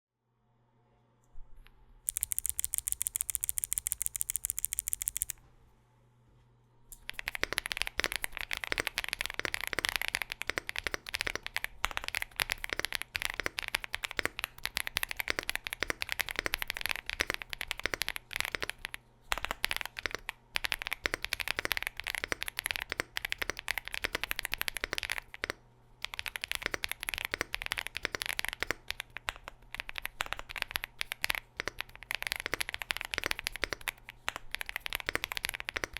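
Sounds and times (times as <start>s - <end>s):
mechanical keyboard typing: 2.1s - 5.4s, 7.0s - 35.9s.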